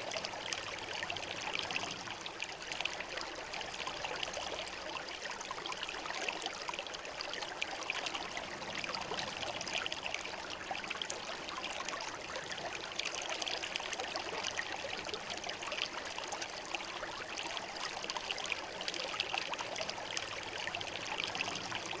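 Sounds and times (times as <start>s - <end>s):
river flowing over stones: 0.0s - 22.0s.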